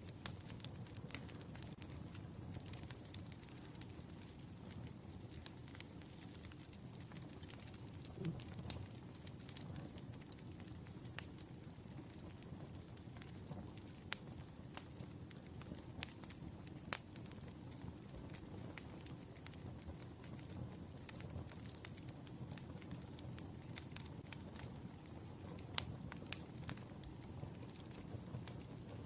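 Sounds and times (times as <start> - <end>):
firewood crackling and popping: 0.0 - 29.0
flames rumbling: 0.0 - 29.0.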